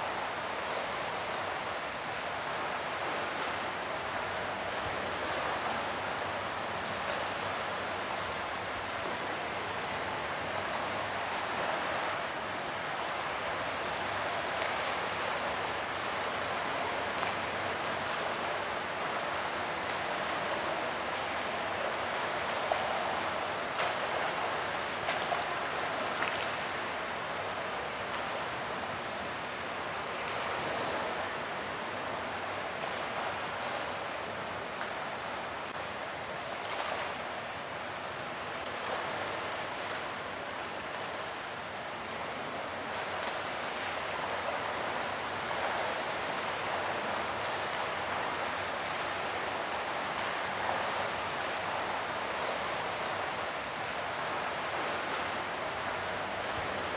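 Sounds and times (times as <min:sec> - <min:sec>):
fountain water splashing: 0:00.0 - 0:56.9.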